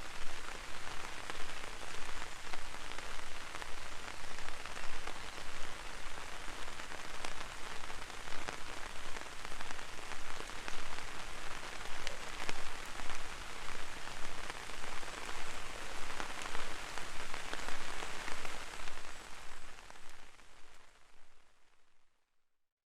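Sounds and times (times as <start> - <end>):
rain hiss: 0.0 - 21.4
raindrops ticking on umbrella: 0.1 - 20.9.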